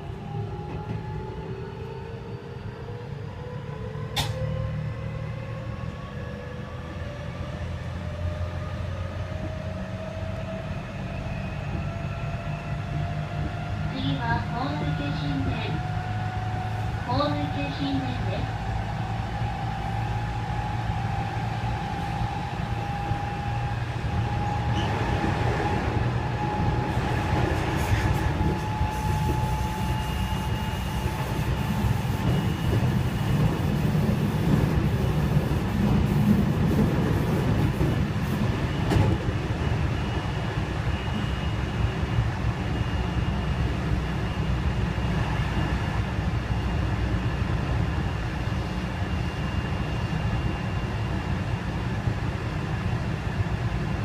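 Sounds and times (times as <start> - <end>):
train wheels rumbling on rails: 0.0 - 1.7, 8.1 - 54.0
train inverter whine: 0.0 - 54.0.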